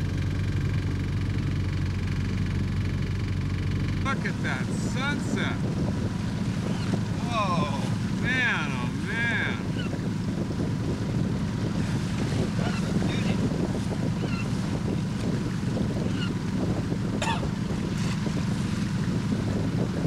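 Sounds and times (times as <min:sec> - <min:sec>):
boat engine droning: 0:00.0 - 0:20.0
water washing along hull: 0:00.0 - 0:20.0
wind buffeting microphone: 0:02.2 - 0:20.0.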